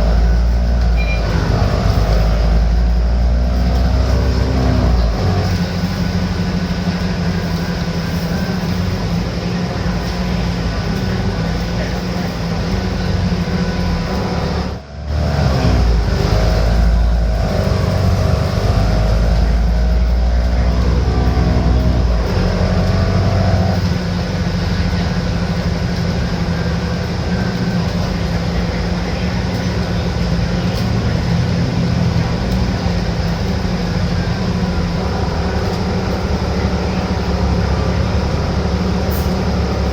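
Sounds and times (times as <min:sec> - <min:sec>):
bus diesel engine running: 0:00.0 - 0:39.9
rising drivetrain whine: 0:00.0 - 0:39.9.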